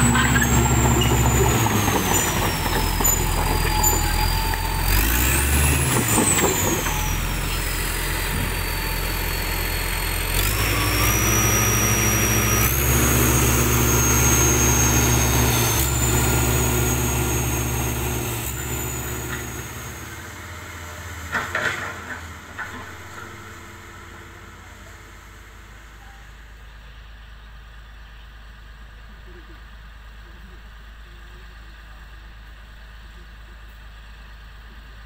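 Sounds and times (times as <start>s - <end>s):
bulldozer diesel engine under load: 0.0s - 35.0s.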